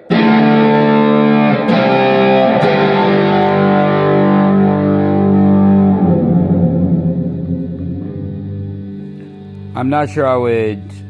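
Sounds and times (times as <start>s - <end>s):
distorted electric guitar chord: 0.0s - 11.0s.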